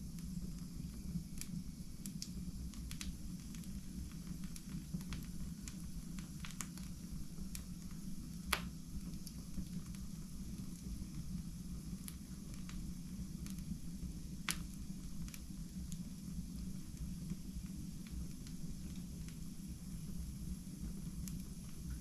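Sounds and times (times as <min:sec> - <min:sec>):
low fire rumble: 0:00.0 - 0:22.0
wood fire crackling and popping: 0:00.0 - 0:22.0.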